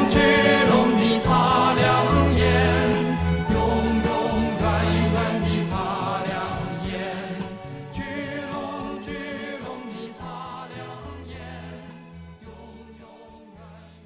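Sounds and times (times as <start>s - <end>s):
choir-like voices: 0.0s - 14.0s
pop song music: 0.0s - 14.0s.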